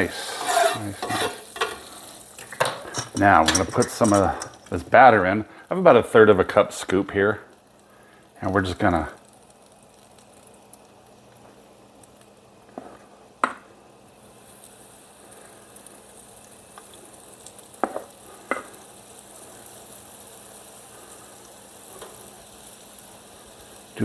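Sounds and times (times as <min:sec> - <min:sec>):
batter sizzling on griddle: 0:00.0 - 0:24.0.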